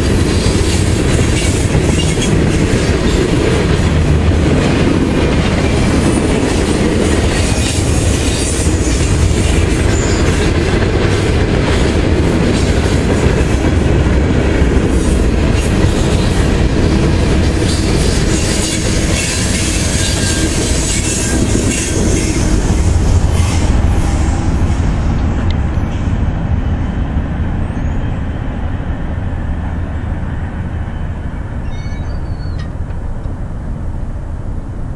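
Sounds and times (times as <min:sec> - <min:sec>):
freight train wheels on rails: 0:00.0 - 0:34.9.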